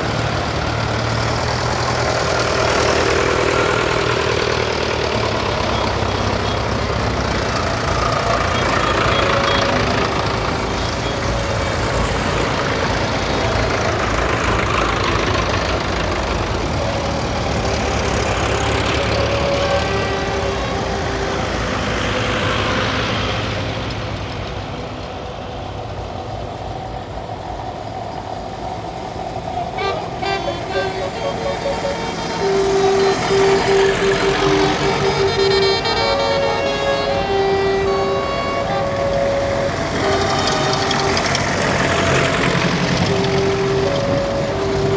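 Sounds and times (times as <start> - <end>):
tractors driving past: 0.0 - 44.9.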